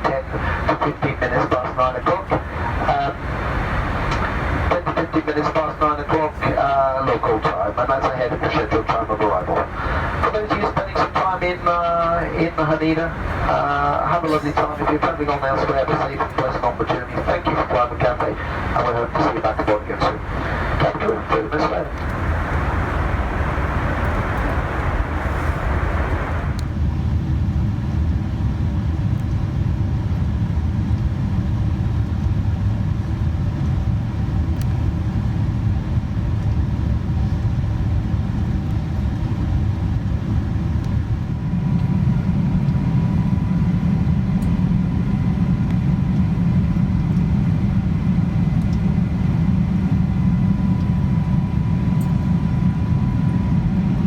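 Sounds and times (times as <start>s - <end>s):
faint steady whine: 0.0s - 27.1s, 31.8s - 54.0s
airliner cabin rumble: 0.0s - 54.0s.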